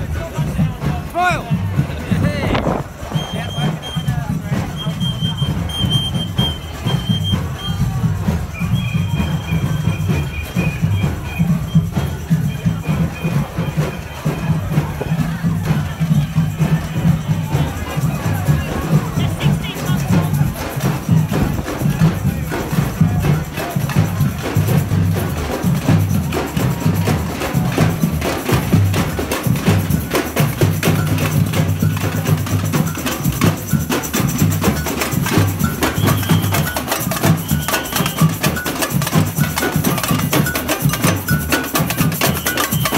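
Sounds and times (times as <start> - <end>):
deep drum beats: 0.0 - 42.9
percussion band playing: 0.0 - 42.9
agogo bells: 3.0 - 42.9.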